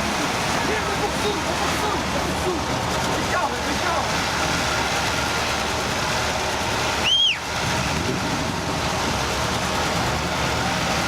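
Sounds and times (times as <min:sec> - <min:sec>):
motor vehicle noise: 0:00.0 - 0:11.0.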